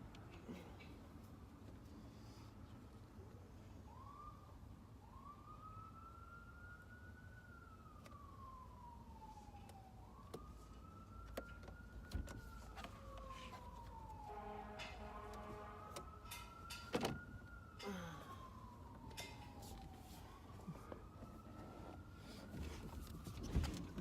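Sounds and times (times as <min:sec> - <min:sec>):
faint emergency siren wailing: 0:00.0 - 0:24.0.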